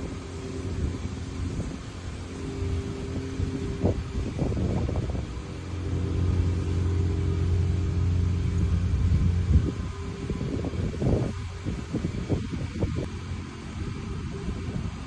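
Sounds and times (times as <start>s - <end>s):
golf cart motor humming: 0.0s - 15.0s
wind rumble on microphone: 0.0s - 15.0s.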